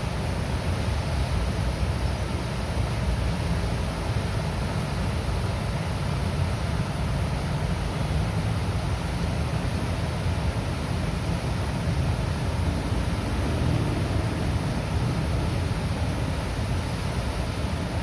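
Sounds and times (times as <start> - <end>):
water rushing through dam gates: 0.0 - 18.0.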